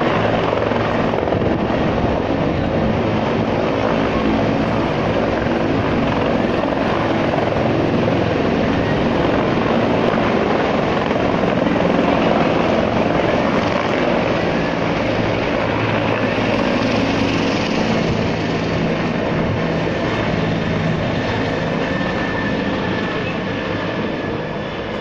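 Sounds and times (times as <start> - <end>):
helicopter rotor and turbine noise: 0.0 - 25.0.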